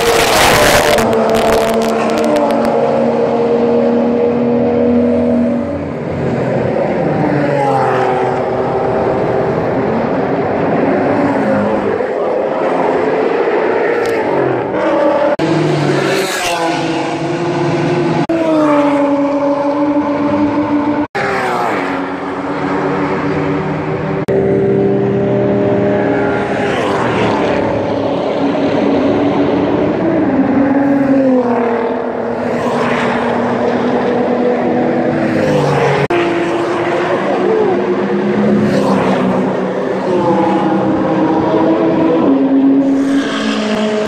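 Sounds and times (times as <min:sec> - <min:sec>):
race cars passing at speed: 0:00.0 - 0:44.0.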